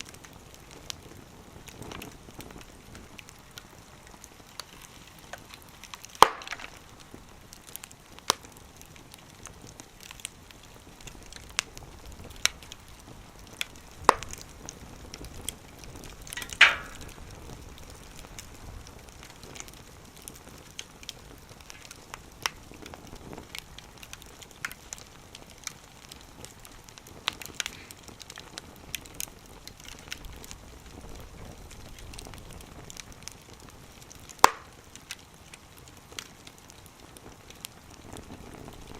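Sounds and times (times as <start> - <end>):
firewood popping: 0.0 - 38.9
low fire hiss: 0.0 - 38.9
wood fire crackling: 0.0 - 38.9.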